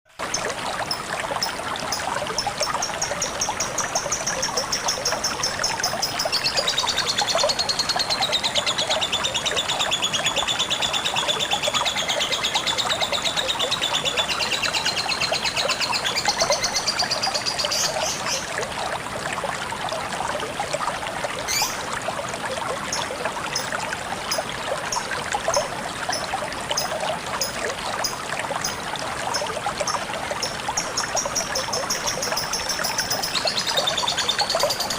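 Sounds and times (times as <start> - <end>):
water trickling: 0.1 - 34.9.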